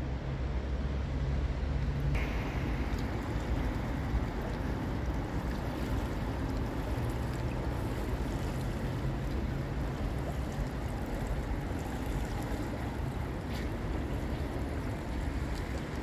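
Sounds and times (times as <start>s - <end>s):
floodwater rushing rumble: 0.2s - 16.0s.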